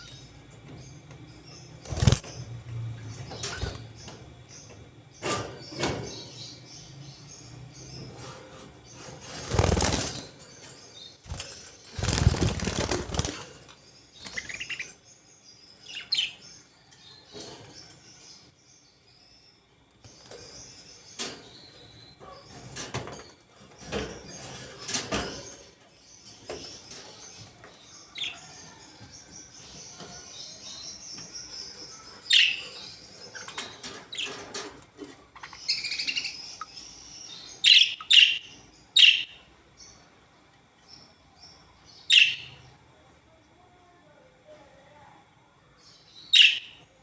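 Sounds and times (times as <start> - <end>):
budgerigars chirping and warbling: 0.0 - 18.5, 20.1 - 40.0, 42.1 - 42.7, 45.9 - 47.0.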